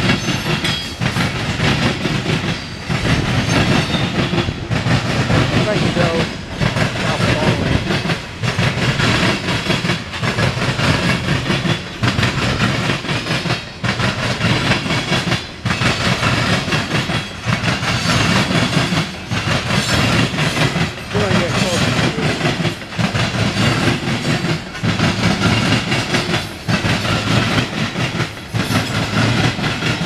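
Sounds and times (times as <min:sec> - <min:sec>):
train wheels clacking on rails: 0:00.0 - 0:30.0.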